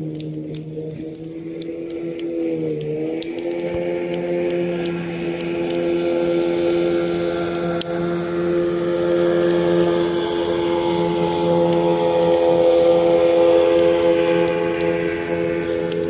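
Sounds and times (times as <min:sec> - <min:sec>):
campfire crackling and popping: 0:00.0 - 0:16.0
outboard motor running: 0:00.0 - 0:16.0.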